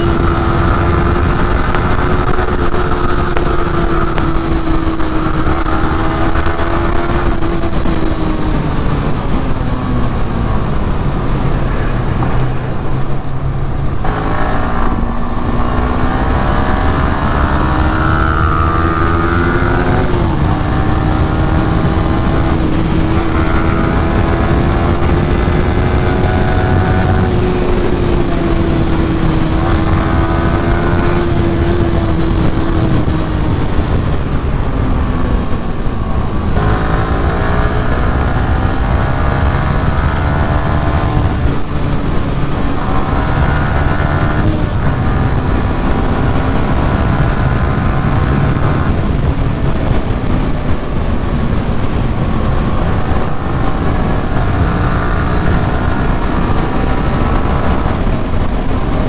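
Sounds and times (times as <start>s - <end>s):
motorcycle engine shifting gears: 0.0s - 59.0s
wind rushing: 0.0s - 59.0s.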